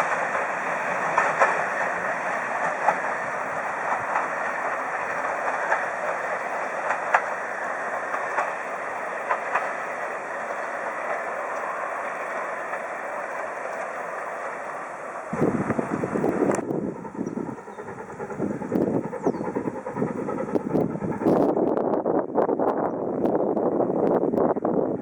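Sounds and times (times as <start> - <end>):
wheels clicking over rail joints: 0.0 - 21.6
train wheels rushing on rails: 0.0 - 25.0.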